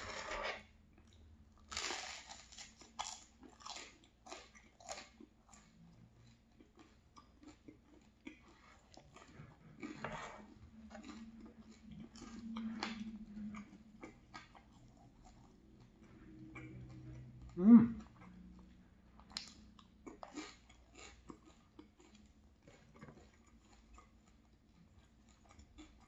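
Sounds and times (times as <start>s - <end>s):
crunchy bread chewing: 0.9s - 26.0s.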